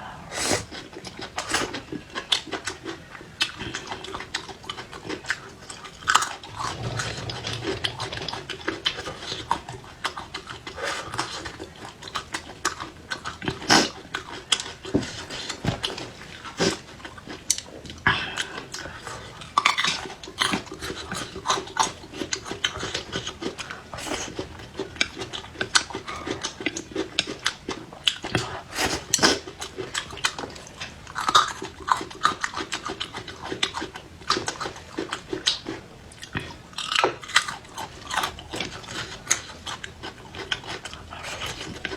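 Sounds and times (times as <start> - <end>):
person chewing and crunching: 0.5 - 41.9.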